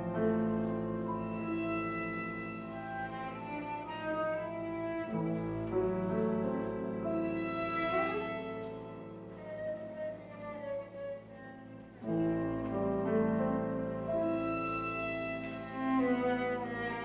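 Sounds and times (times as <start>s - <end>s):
cello: 0.0s - 17.0s
piano: 0.0s - 17.0s
violin: 0.0s - 17.0s.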